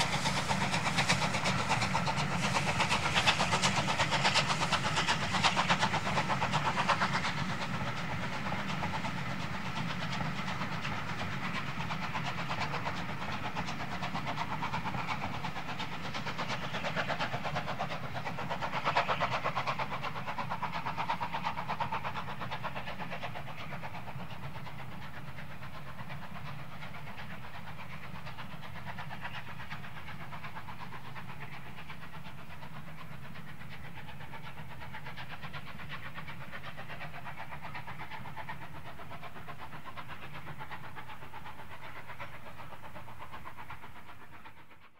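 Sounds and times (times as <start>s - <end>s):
steam locomotive exhaust beats: 0.0s - 44.9s.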